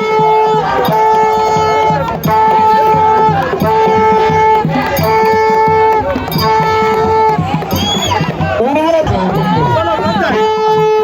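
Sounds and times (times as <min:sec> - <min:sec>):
hand drumming: 0:00.0 - 0:10.6.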